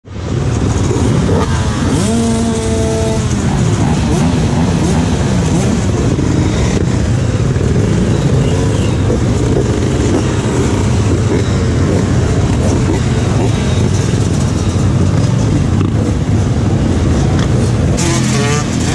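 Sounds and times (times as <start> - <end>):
motorcycle engines idling: 0.2 - 18.9
engine revving: 0.6 - 18.9.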